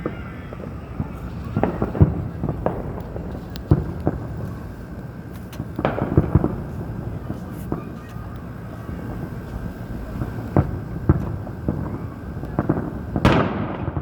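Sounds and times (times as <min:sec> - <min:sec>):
distant fireworks exploding: 0:00.0 - 0:14.0.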